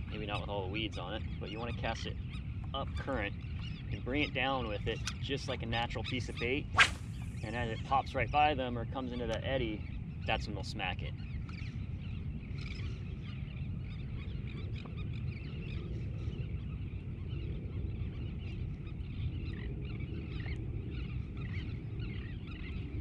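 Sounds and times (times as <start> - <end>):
birds calling and chattering: 0.0 - 23.0.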